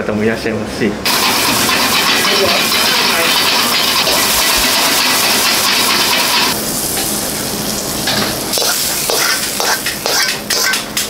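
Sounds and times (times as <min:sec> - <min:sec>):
gas burner roar: 0:01.0 - 0:11.0
stir-fry sizzling in a wok: 0:01.1 - 0:11.0.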